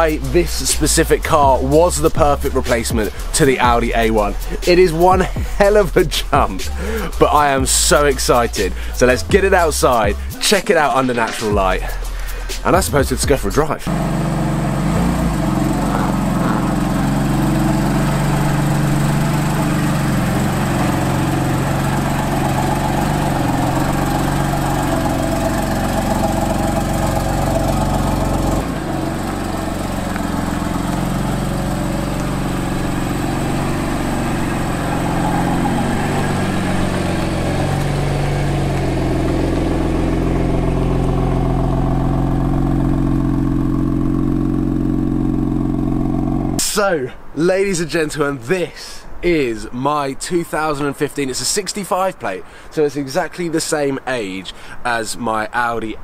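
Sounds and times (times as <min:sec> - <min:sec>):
car engine idling: 0:00.0 - 0:46.7.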